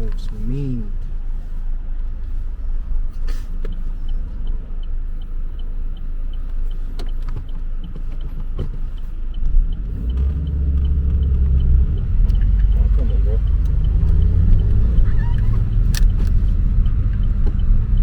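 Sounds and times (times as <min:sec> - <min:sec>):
car engine rumbling: 0:00.0 - 0:18.0
light ticking: 0:01.9 - 0:18.0.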